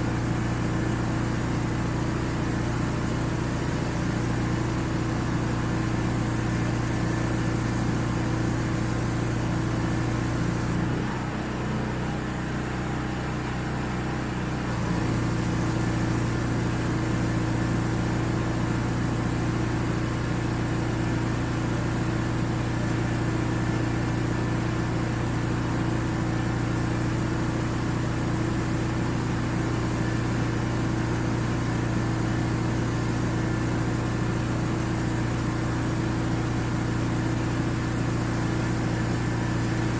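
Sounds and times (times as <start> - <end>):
pressure washer running: 0.0 - 10.9, 14.7 - 39.9.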